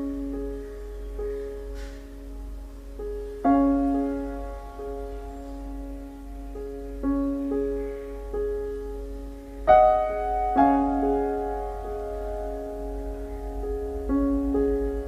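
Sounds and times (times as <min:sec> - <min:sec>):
soft slow solo piano: 0:00.0 - 0:15.0.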